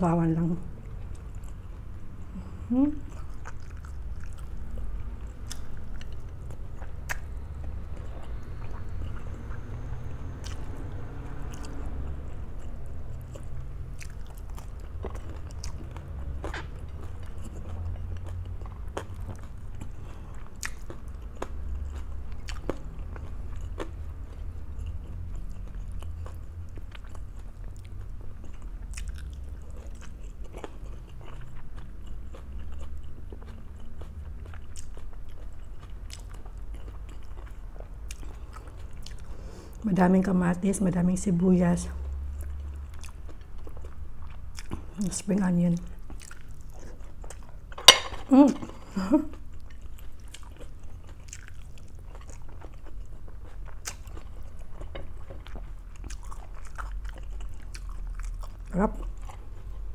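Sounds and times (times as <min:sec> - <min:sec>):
person chewing crunchy food: 0:00.7 - 0:39.8, 0:41.9 - 0:45.1, 0:45.7 - 0:59.9.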